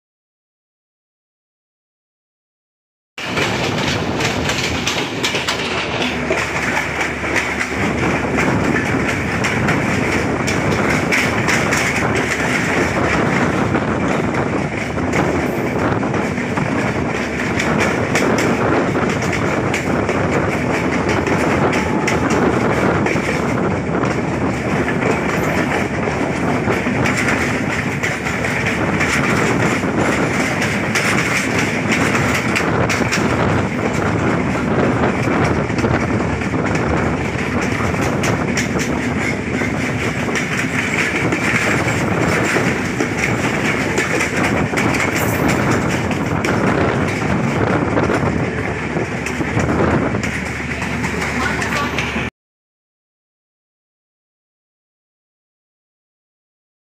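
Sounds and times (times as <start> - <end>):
train running wind rush: 3.2 - 52.3
wheels clacking over rail joints: 3.2 - 52.3.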